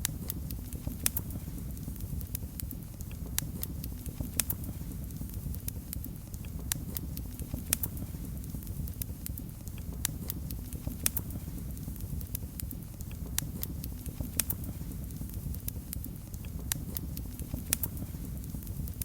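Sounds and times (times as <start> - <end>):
fire crackling and popping: 0.0 - 19.0
fire flames rumbling: 0.0 - 19.0.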